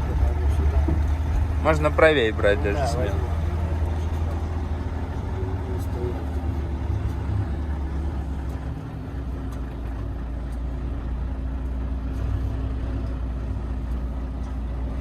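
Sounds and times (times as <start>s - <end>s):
truck diesel engine droning: 0.0s - 15.0s.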